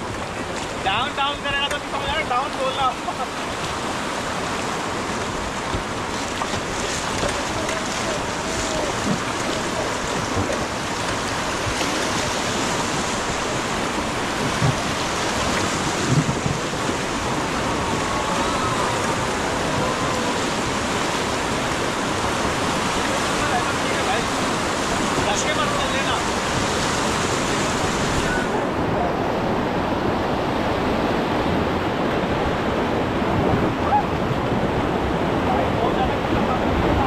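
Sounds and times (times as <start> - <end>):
river rapids rushing: 0.0 - 37.0.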